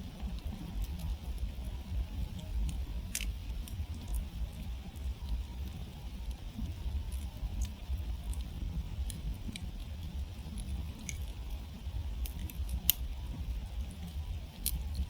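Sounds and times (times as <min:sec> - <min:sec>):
burning wood popping: 0:00.0 - 0:15.0
campfire crackling: 0:00.0 - 0:15.0
low rumble of fire: 0:00.0 - 0:15.0.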